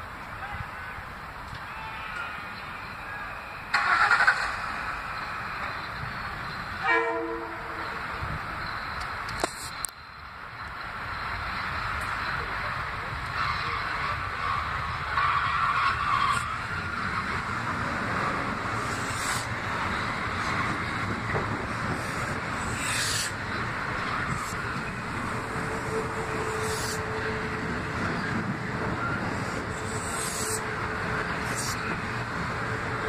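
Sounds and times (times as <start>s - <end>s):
train wheels rumbling on rails: 3.7s - 33.0s.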